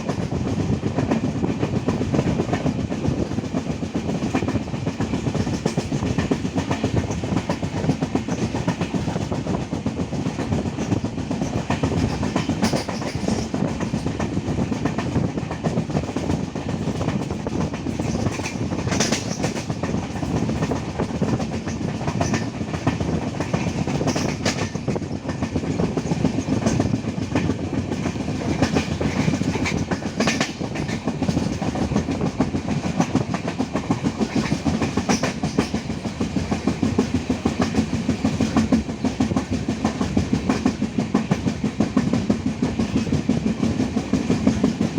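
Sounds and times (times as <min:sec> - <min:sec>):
clacks over rail joints: 0:00.0 - 0:44.9
train wheels rumbling on track: 0:00.0 - 0:44.9.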